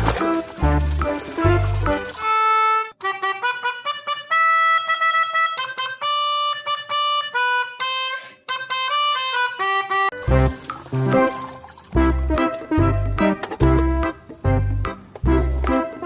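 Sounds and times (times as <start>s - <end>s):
bright reedy melody: 0.1s - 16.0s.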